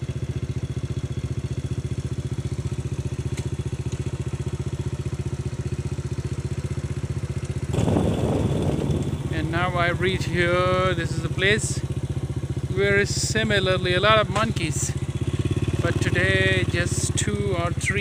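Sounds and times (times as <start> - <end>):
motorcycle engine: 0.0 - 18.0.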